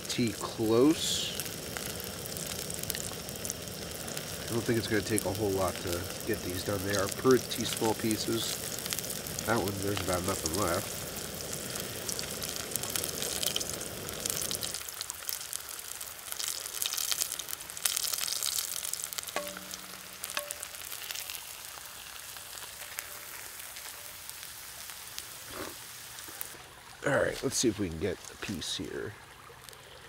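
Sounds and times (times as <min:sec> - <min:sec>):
meat frying in oil: 0:00.0 - 0:30.0.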